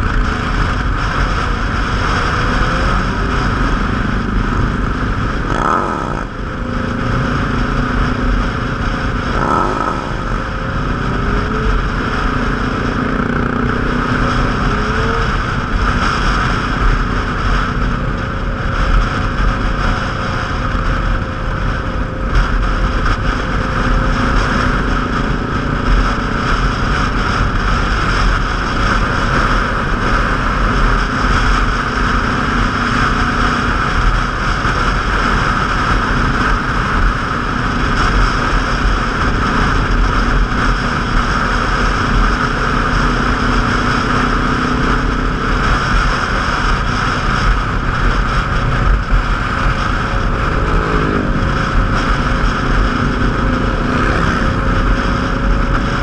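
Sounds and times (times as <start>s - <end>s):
motorcycle engine drone: 0.0s - 56.0s
wind rushing over microphone: 0.0s - 56.0s.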